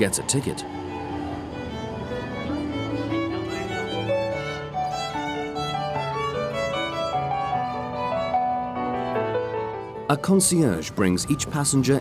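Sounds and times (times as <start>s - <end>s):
violin melody: 0.0s - 12.0s.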